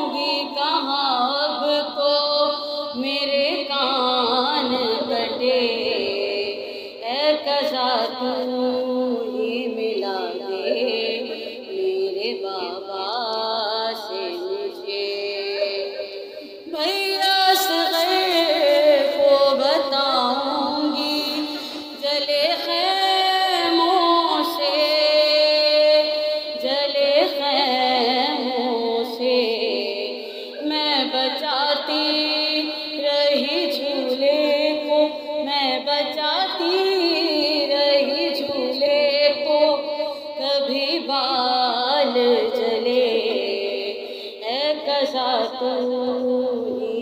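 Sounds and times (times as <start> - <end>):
person singing a lament: 0.0 - 47.0.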